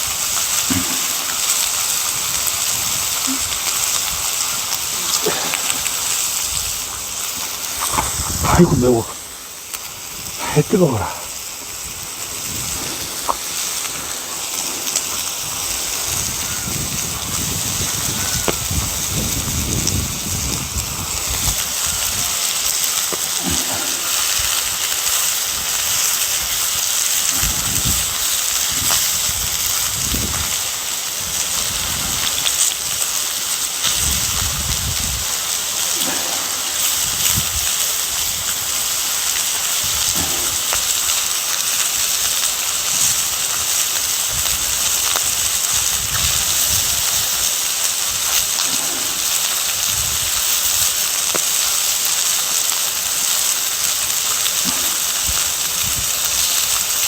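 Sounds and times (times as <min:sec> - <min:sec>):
low fire rumbles: 0:00.0 - 0:57.0
wood fire hissing and crackling: 0:00.0 - 0:57.0.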